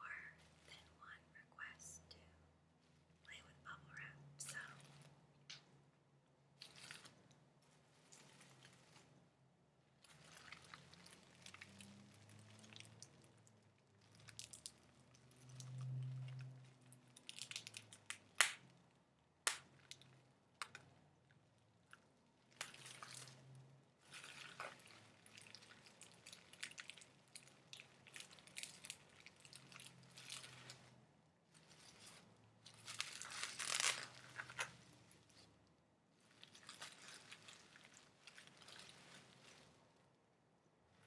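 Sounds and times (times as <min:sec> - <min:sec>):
crinkling and crackling: 0:00.0 - 0:05.8, 0:06.5 - 0:41.0.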